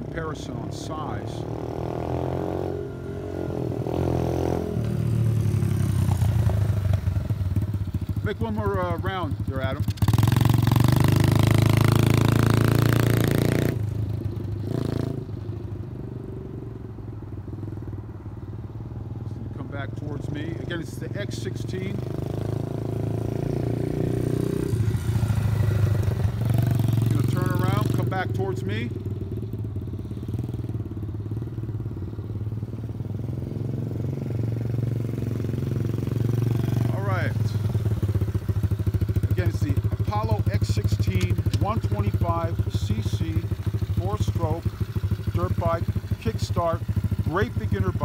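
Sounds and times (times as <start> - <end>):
motorbike engine revving: 0.0 - 48.0.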